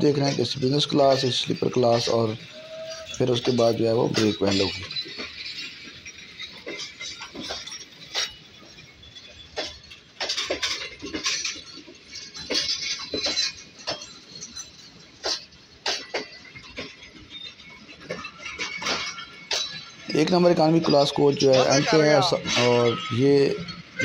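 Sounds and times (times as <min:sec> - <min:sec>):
metallic clicks and clanks of wheels: 0:00.0 - 0:24.0
train coaches rolling past: 0:00.0 - 0:24.0.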